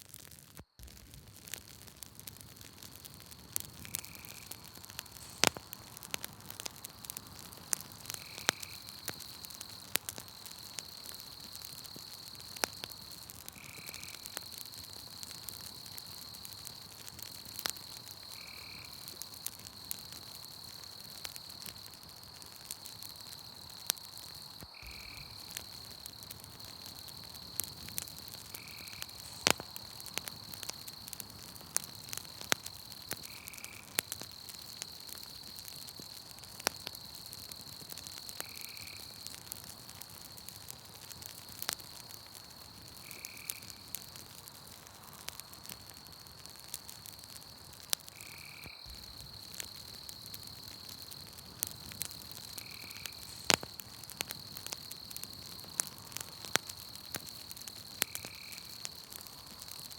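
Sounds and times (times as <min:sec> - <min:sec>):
campfire crackling and popping: 0:00.0 - 0:59.9
insect trill: 0:02.4 - 0:59.9.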